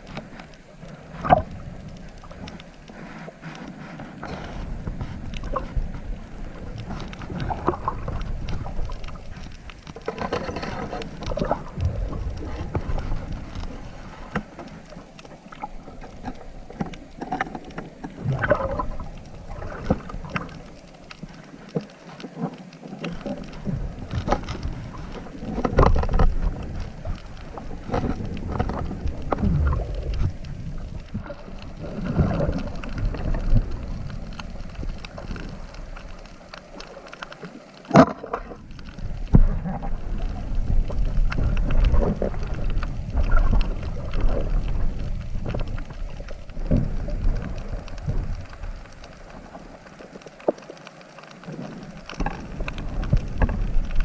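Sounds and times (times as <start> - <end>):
water sloshing and churning: 0.0 - 54.0.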